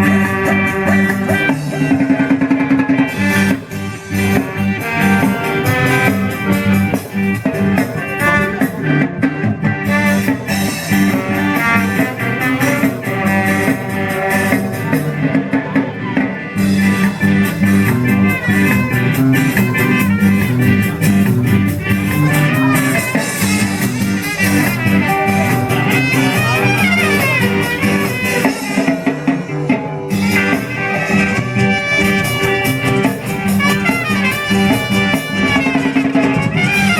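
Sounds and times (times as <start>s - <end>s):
ska band playing: 0.0s - 36.9s.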